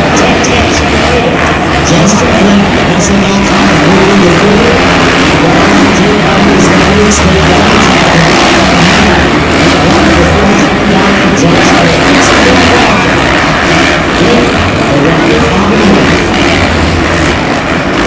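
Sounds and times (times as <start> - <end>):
motorcycle engines racing: 0.0 - 18.0
steady wash of noise: 0.0 - 18.0.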